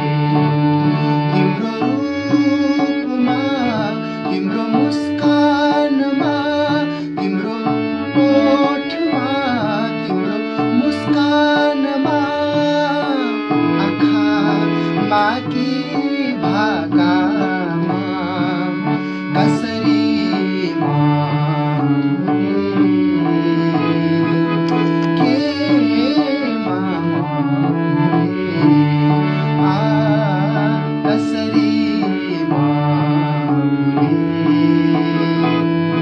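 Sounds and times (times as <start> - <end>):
harmonium drone: 0.0 - 36.0
man singing: 0.0 - 36.0.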